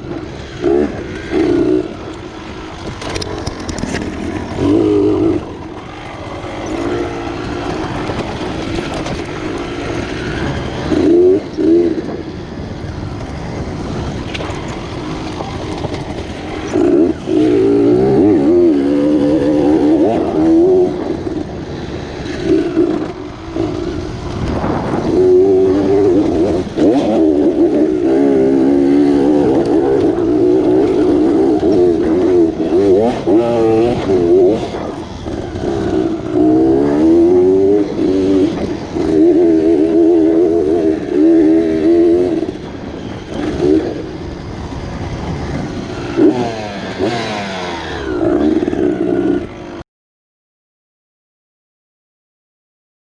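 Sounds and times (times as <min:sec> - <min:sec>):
dirt bike engine revving: 0:00.0 - 0:49.8.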